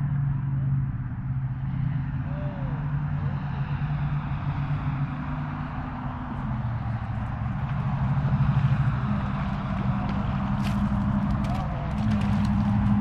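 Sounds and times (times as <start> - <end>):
constant rushing noise: 0.0 - 13.0
low engine hum: 0.0 - 13.0.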